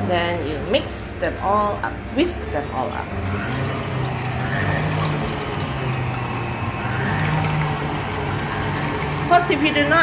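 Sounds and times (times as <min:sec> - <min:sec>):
stand mixer motor hum: 0:00.0 - 0:10.0.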